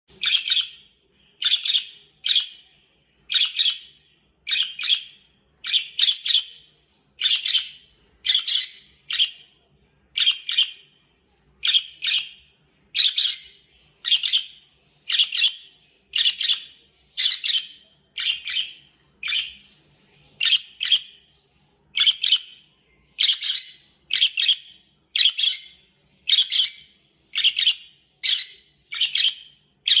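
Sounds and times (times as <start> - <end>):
budgerigar chirping: 0.2 - 2.6, 3.3 - 9.5, 10.2 - 10.8, 11.6 - 19.6, 22.0 - 30.0.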